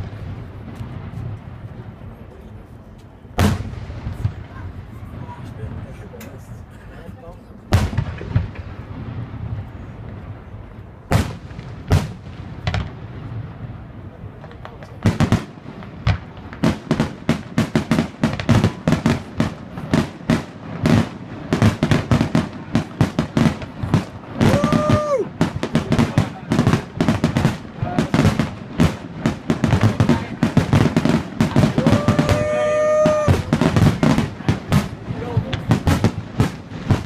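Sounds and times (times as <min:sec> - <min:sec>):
fireworks bursting: 0:00.0 - 0:06.7, 0:07.6 - 0:37.0.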